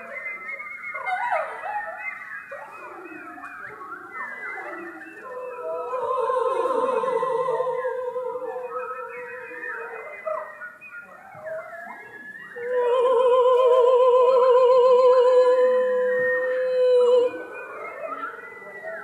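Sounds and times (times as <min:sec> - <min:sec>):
choir voices sliding: 0:02.6 - 0:19.0.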